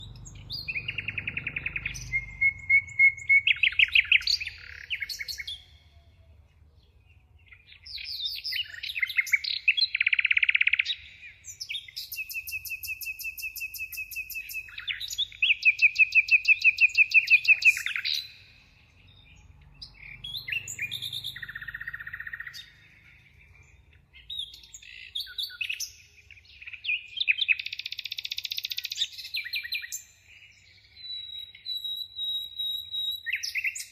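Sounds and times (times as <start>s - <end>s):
bird trills and chirps: 0.0s - 33.9s.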